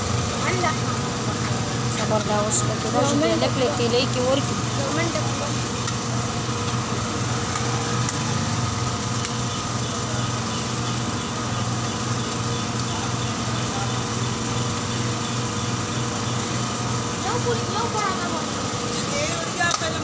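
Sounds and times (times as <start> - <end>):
deep-frying in hot oil: 0.0 - 20.0
engine-like drone: 0.0 - 20.0.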